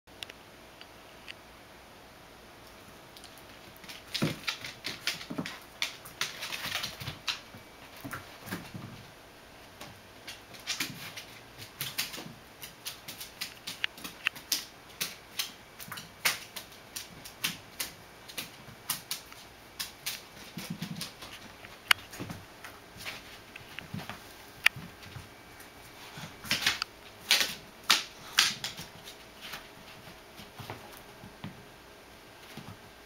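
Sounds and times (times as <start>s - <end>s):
dog claws clicking on floor: 3.2s - 9.0s, 9.8s - 25.2s, 26.2s - 31.6s.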